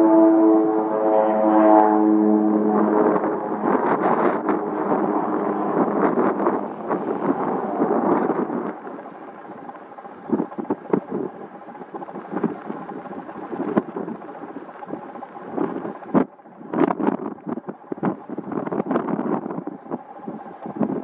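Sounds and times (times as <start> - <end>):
aircraft engine rumble: 0.0 - 21.0
wind buffeting microphone: 0.0 - 21.0.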